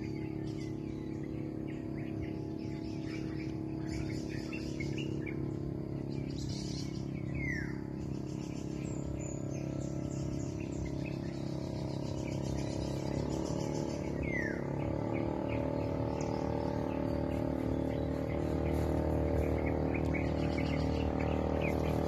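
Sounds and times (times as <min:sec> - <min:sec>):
birds chirping: 0:00.0 - 0:22.0
low hum: 0:00.0 - 0:22.0.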